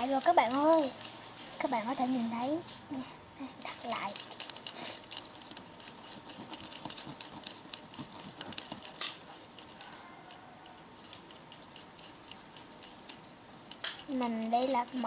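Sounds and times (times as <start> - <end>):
stick stirring wet slime: 0.0 - 15.0.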